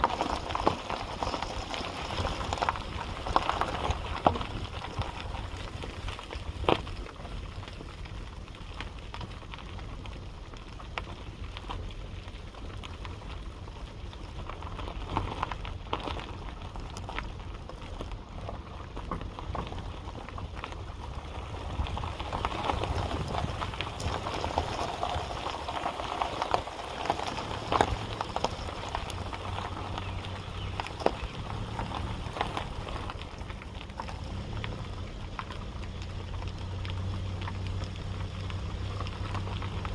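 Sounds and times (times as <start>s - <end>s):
crackling noise: 0.0s - 39.9s
wind rumble on microphone: 0.0s - 39.9s.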